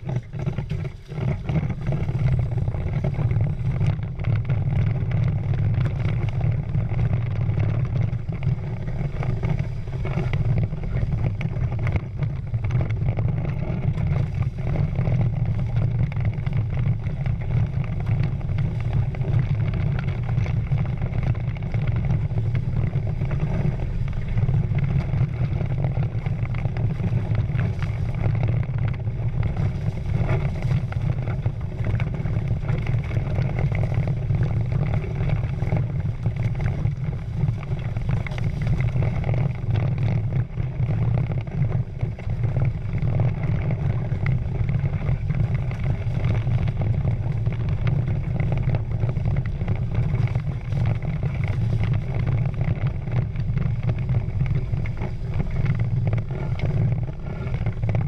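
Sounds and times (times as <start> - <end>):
water rushing past hulls: 0.0 - 58.0
wind rumble on microphone: 0.0 - 58.0.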